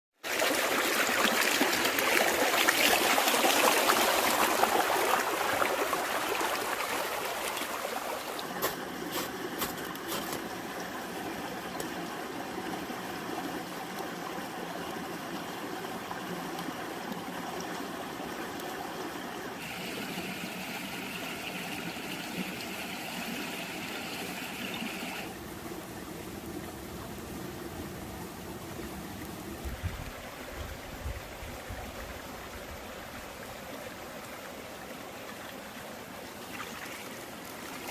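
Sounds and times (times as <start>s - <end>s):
running water: 0.2s - 37.9s.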